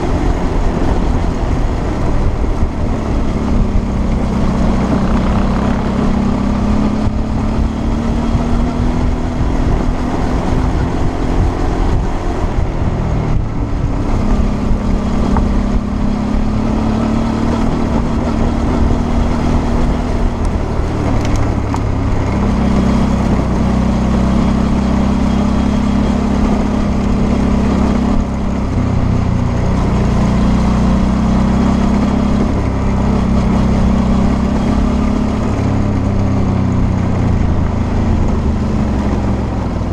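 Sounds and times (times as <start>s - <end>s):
motorcycle engine pulling through gears: 0.0s - 39.9s
wind and road noise: 0.0s - 39.9s.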